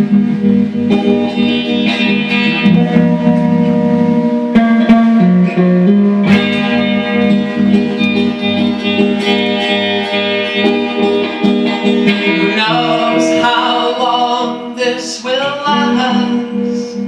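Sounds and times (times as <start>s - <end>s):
sustained chords: 0.0s - 14.9s
plucked guitar notes: 0.0s - 17.0s.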